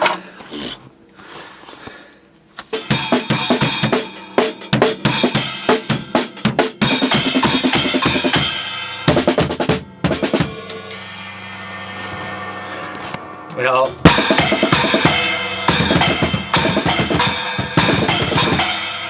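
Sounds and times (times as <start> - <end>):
drum kit played hard: 2.7 - 19.0
cymbals ringing: 2.8 - 19.0.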